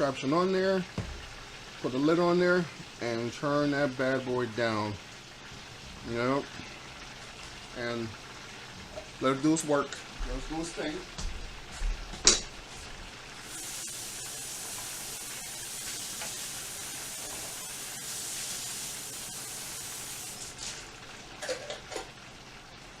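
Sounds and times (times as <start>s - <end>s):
stovetop cooking hiss: 0.0s - 23.0s.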